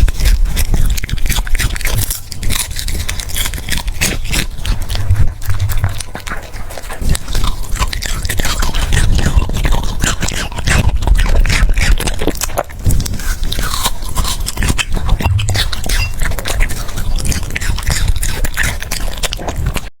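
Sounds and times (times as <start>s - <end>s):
dog chewing and smacking: 0.0s - 19.9s.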